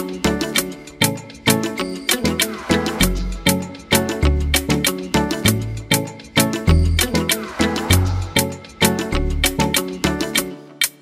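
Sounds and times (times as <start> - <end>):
upbeat instrumental music: 0.0 - 11.0.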